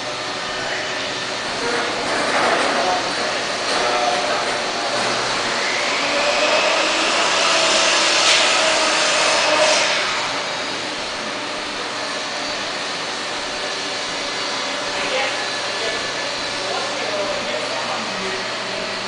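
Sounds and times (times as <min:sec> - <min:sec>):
machinery whirring and hissing: 0:00.0 - 0:19.0.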